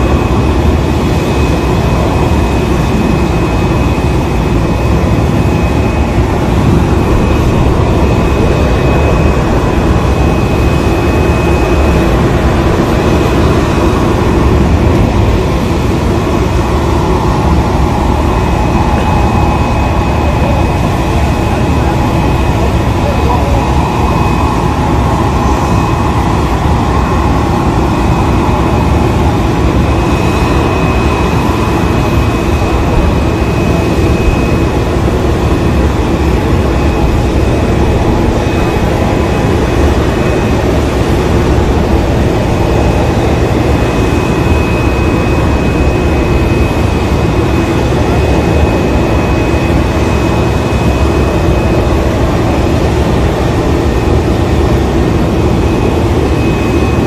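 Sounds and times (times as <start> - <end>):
high turbine whine: 0.0 - 57.0
jet turbines droning: 0.0 - 57.0.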